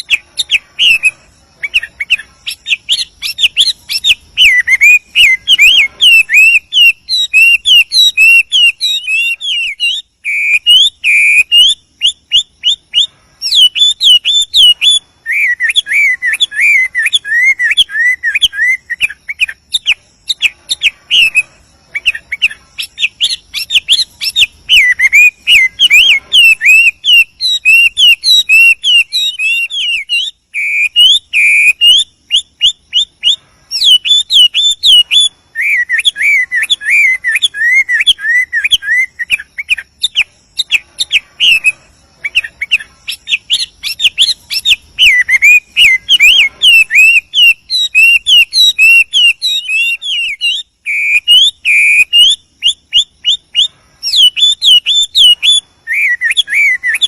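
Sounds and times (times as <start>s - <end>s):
bird singing whistled song: 0.0s - 57.0s.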